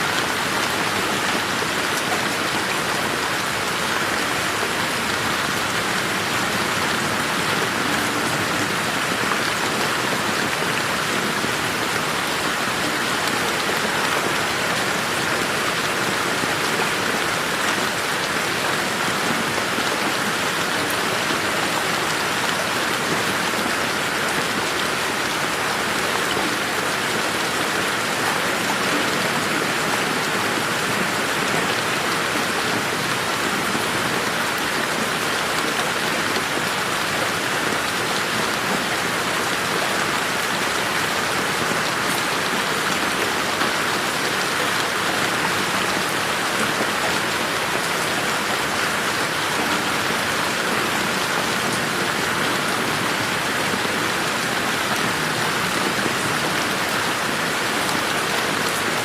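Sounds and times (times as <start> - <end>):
rain pattering on foliage: 0.1 - 59.0.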